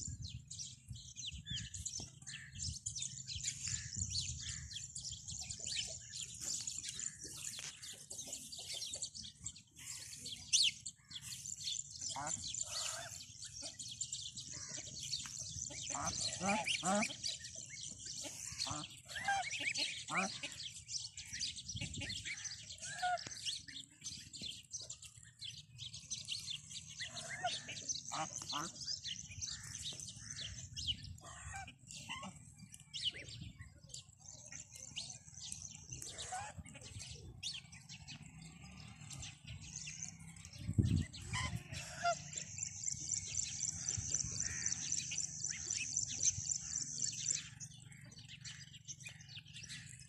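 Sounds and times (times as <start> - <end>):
goslings peeping: 1.4 - 38.2, 39.1 - 50.0.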